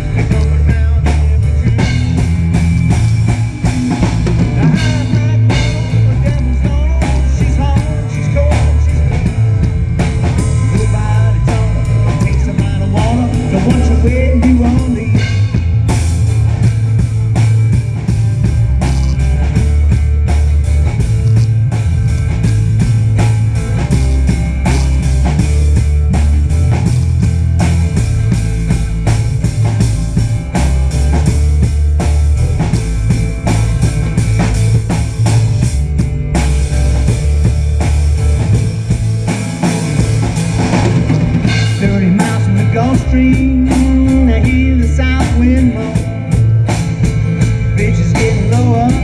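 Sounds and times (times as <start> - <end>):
drum kit beat: 0.0 - 49.0
electric guitar: 0.0 - 49.0
heavy bass line: 0.0 - 49.0.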